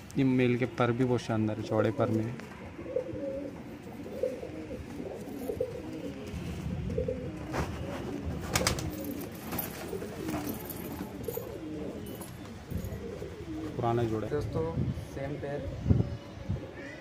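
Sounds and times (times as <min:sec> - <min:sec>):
pigeons cooing: 0:01.6 - 0:14.3, 0:15.3 - 0:17.0.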